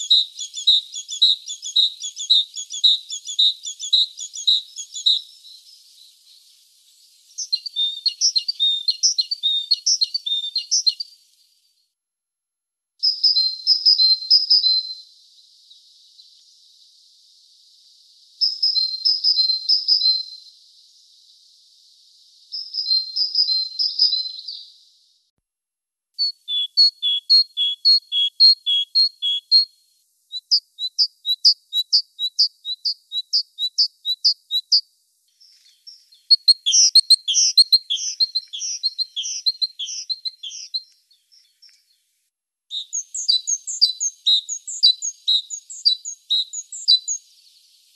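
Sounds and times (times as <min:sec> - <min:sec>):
great tit singing: 0:00.0 - 0:11.2, 0:13.0 - 0:16.4, 0:18.2 - 0:21.6, 0:22.4 - 0:24.9, 0:26.2 - 0:42.0, 0:42.7 - 0:47.9.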